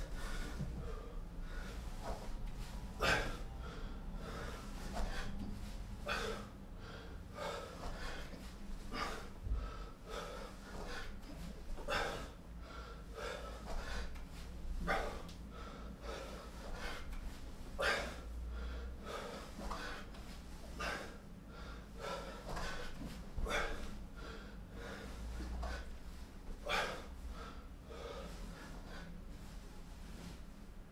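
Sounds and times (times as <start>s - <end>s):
man breathing hard: 0.0s - 30.8s.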